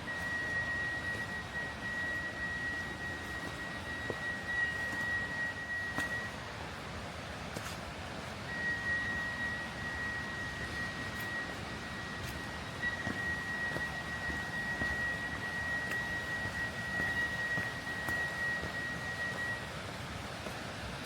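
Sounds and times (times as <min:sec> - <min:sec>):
high-pitched whistle-like tone: 0:00.0 - 0:06.5, 0:08.5 - 0:19.8.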